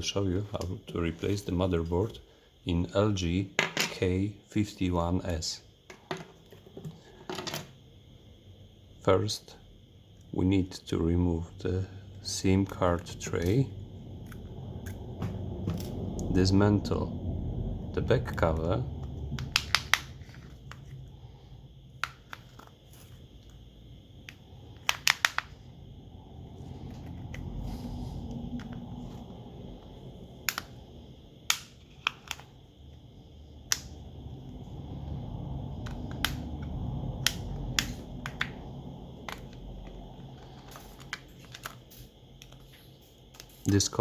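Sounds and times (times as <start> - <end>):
low steady hum: 6.6 - 44.0.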